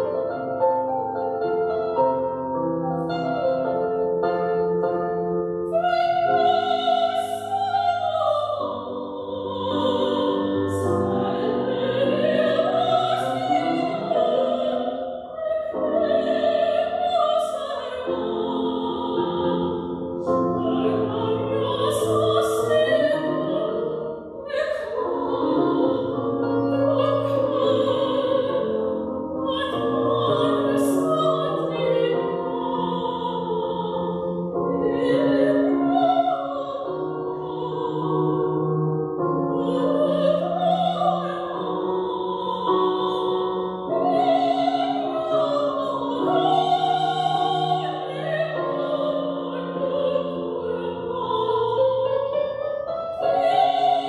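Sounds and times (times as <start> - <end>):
woman singing operatically: 5.7 - 38.3, 39.5 - 52.2, 53.2 - 54.0.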